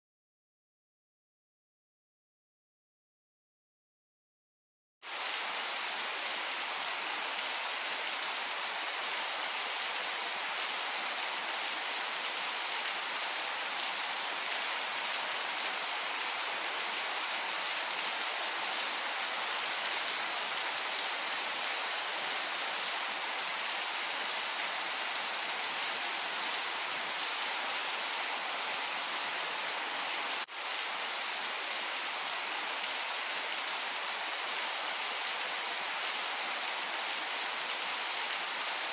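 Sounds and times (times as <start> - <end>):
steady rain: 5.0 - 38.9.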